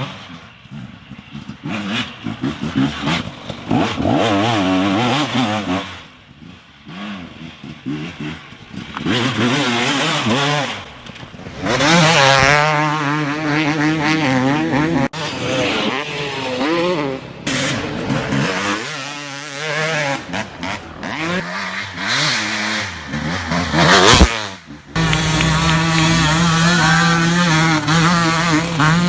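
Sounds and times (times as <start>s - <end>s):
dirt bikes revving: 0.0s - 29.0s
loud dirt bike engine: 0.0s - 29.0s.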